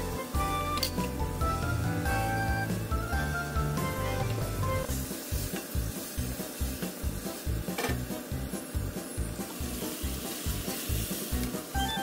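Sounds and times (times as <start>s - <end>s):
background music with low beat: 0.0s - 12.0s
tomatoes sizzling in a wok: 0.0s - 12.0s.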